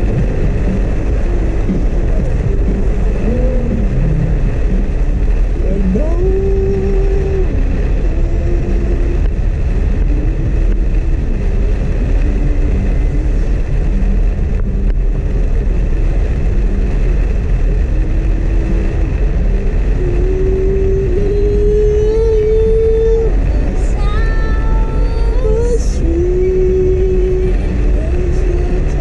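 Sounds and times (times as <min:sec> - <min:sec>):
car engine hum: 0:00.0 - 0:29.0
heavy rain drumming on car: 0:00.0 - 0:29.0
road rumble: 0:00.0 - 0:29.0.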